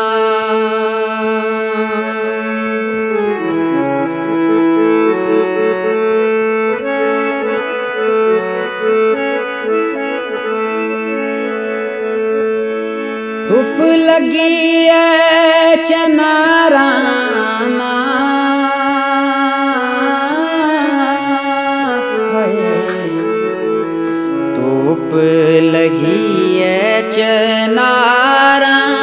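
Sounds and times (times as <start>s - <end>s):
reedy keyboard melody over drone: 0.0s - 29.0s.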